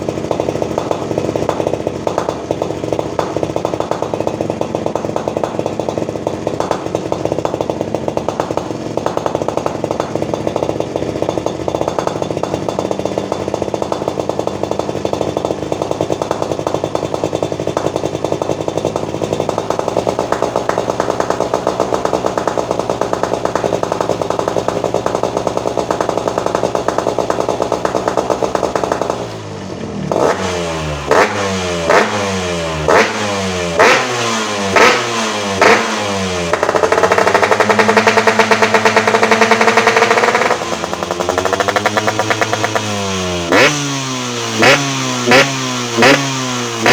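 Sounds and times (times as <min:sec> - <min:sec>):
engine throttle blips: 0:00.0 - 0:46.9
two-stroke motorcycle engine rattling: 0:00.0 - 0:46.9.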